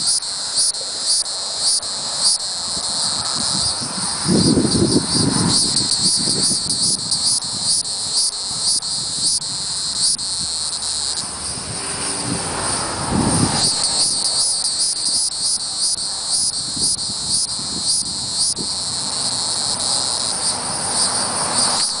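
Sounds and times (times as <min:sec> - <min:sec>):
cicada buzzing: 0:00.0 - 0:22.0.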